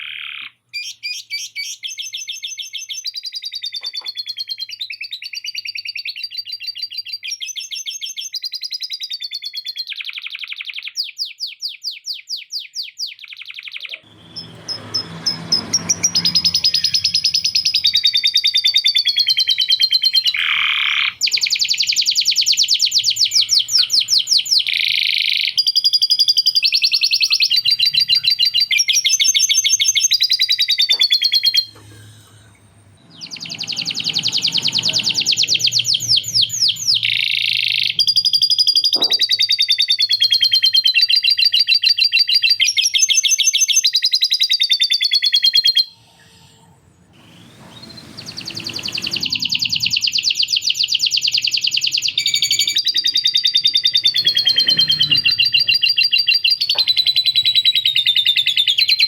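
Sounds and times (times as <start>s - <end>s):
canary singing trills: 0.0s - 46.6s, 47.2s - 59.0s.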